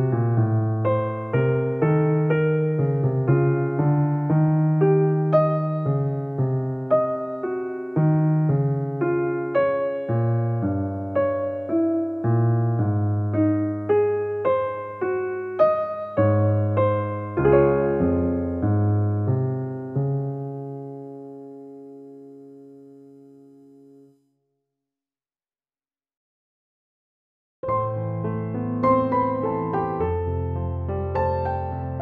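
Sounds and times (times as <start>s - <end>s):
gentle piano music: 0.0s - 24.2s, 27.6s - 32.0s.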